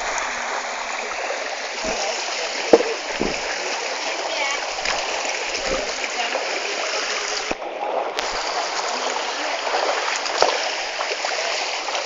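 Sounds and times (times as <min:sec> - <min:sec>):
knocks and splashes: 0:00.0 - 0:12.0
stream water rushing: 0:00.0 - 0:12.0.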